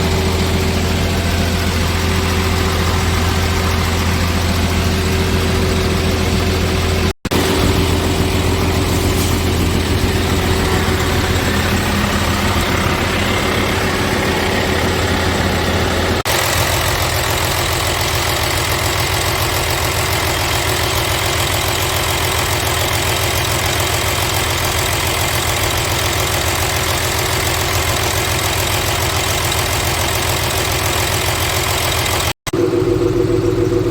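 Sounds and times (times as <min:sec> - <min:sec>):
diesel truck idling: 0:00.0 - 0:33.9.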